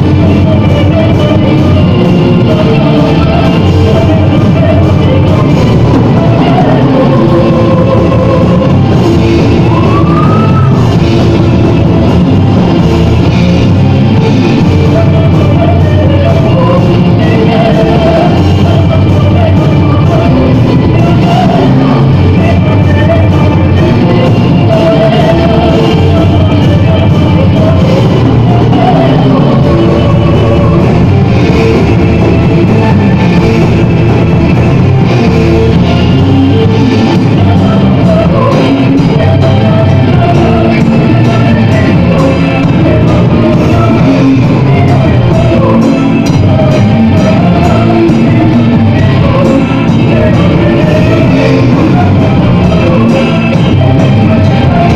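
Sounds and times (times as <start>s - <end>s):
bass guitar: 0.0s - 54.9s
distorted electric guitars: 0.0s - 54.9s
drum kit: 0.0s - 54.9s
metal band playing: 0.0s - 54.9s.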